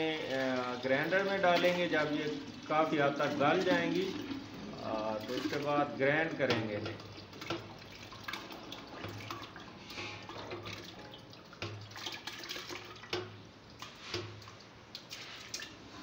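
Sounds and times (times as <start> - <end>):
liquid trickling and dripping: 0.0 - 16.0.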